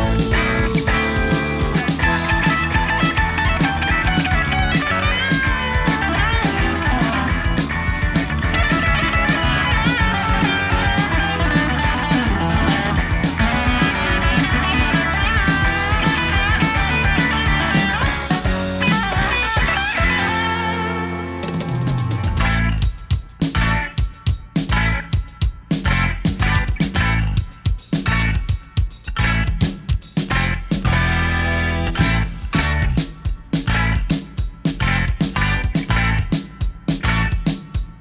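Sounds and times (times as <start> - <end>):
electric guitar lead lines: 0.0 - 29.7, 30.3 - 37.6
bass guitar: 0.0 - 38.0
steady drum beat: 0.0 - 38.0.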